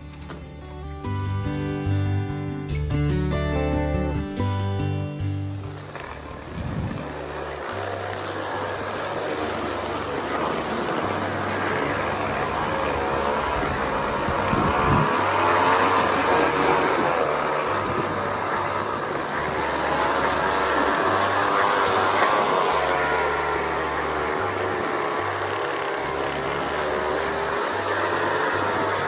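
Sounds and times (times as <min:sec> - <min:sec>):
roller slide rumbling and whirring: 0:05.2 - 0:29.0.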